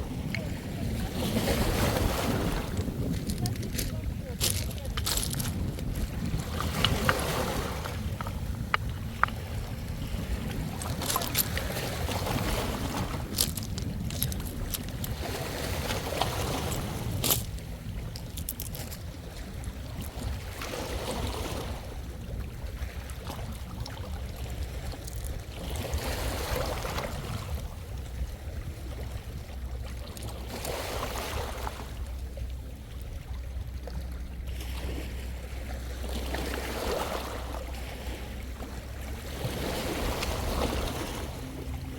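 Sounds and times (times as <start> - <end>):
sea waves washing ashore: 0.0 - 41.9
wind rumble on microphone: 0.0 - 41.9.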